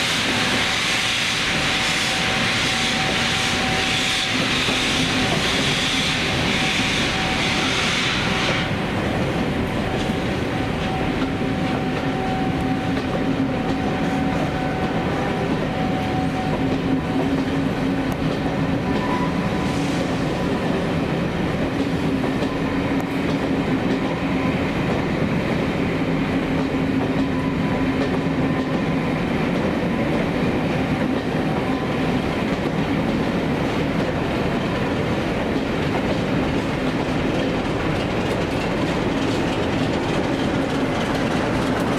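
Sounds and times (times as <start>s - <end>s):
train wheels clattering: 0.0s - 41.9s.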